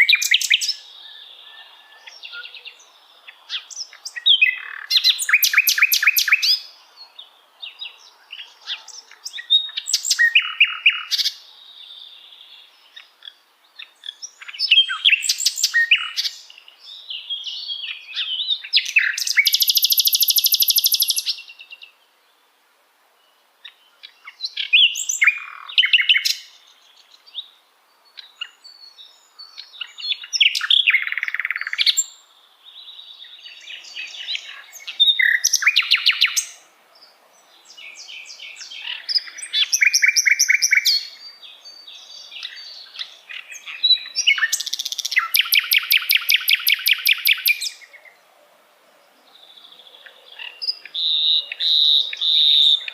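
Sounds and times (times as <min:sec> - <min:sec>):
nightingale singing: 0:00.0 - 0:22.5, 0:23.2 - 0:52.9.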